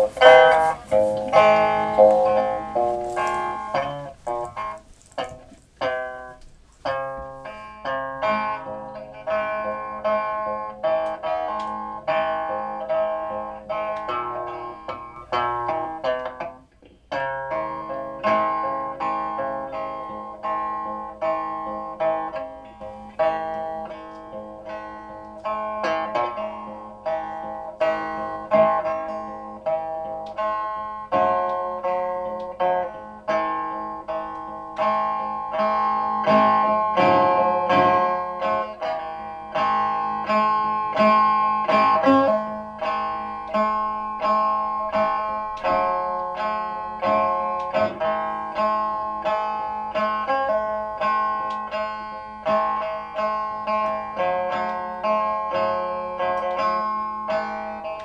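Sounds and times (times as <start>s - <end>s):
plucked string instrument notes: 0.0s - 58.0s.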